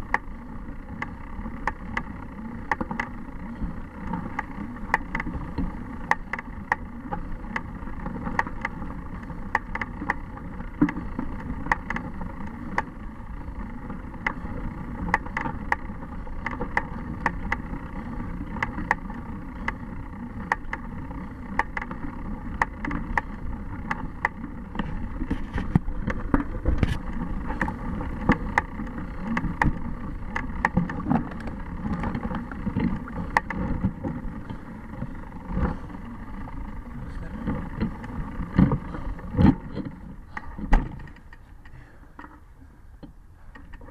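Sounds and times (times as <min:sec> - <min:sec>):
bicycle tyres rumbling on dirt: 0:00.0 - 0:42.6
bike rattling over bumps: 0:00.0 - 0:42.8.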